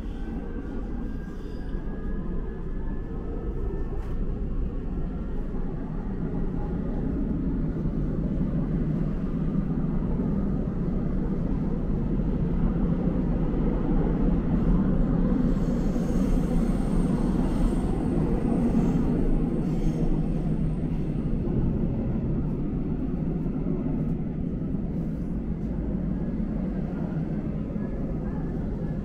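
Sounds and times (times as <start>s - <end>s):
subway train rumble inside carriage: 0.0s - 29.0s.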